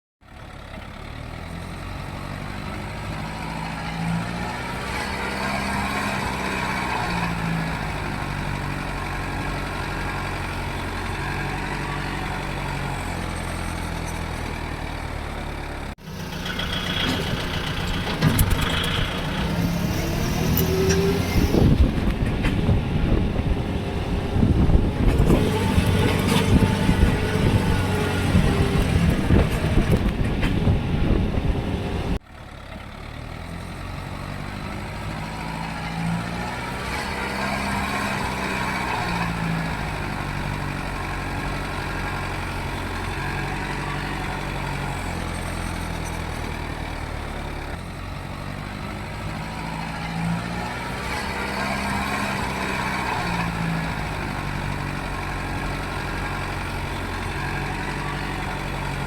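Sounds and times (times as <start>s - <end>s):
diesel tractor engines running: 0.2s - 59.0s
engine knocks and clatter: 0.2s - 59.0s.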